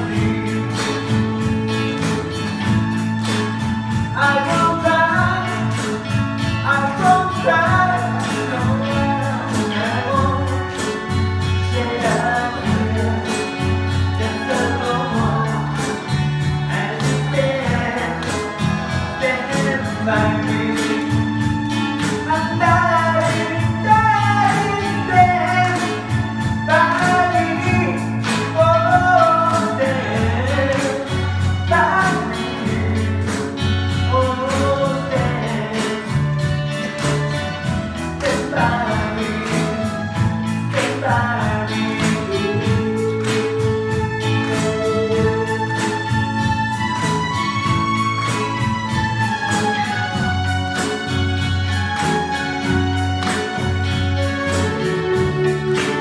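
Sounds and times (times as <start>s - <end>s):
man singing: 0.0s - 1.5s, 4.0s - 56.0s
bass line: 0.0s - 56.0s
guitars: 0.0s - 56.0s.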